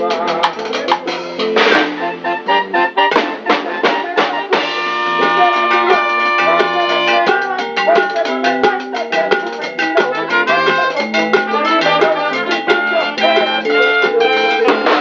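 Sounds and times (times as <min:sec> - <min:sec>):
latin band playing: 0:00.0 - 0:15.0.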